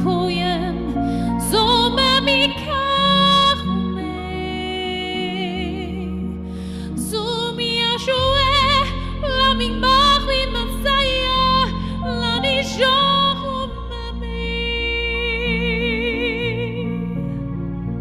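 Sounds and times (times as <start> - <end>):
woman singing with vibrato: 0.0 - 6.1, 7.0 - 17.0
soft piano accompaniment: 0.0 - 18.0.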